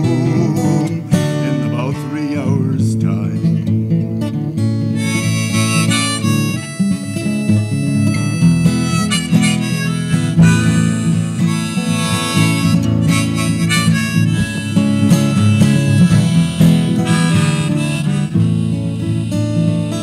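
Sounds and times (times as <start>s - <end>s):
harmonica solo: 0.0s - 3.2s, 4.9s - 20.0s
strummed guitar: 0.0s - 20.0s.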